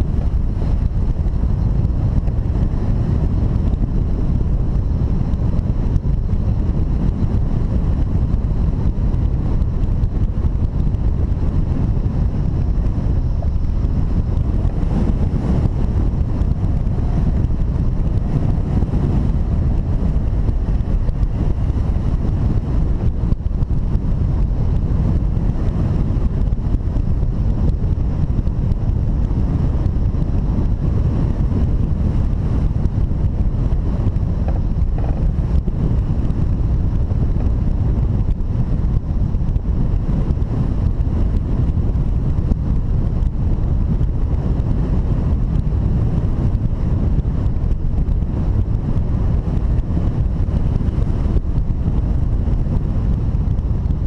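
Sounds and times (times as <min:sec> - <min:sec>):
wind rumbling across microphone: 0:00.0 - 0:54.0.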